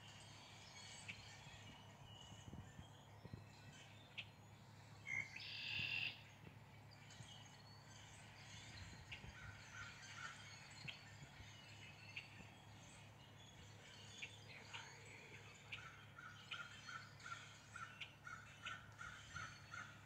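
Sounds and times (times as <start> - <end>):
bird chirps and ticks: 0.1 - 20.0.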